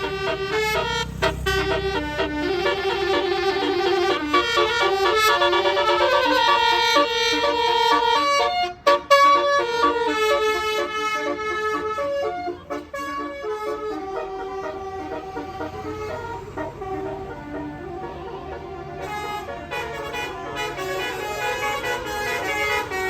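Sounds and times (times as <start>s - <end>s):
multi-tone musical air horn: 0.0s - 23.0s.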